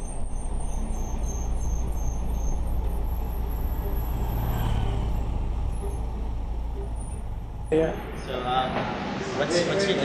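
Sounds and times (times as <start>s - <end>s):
motorbike passing: 0.0s - 10.0s
vehicle engine and road noise: 0.0s - 10.0s.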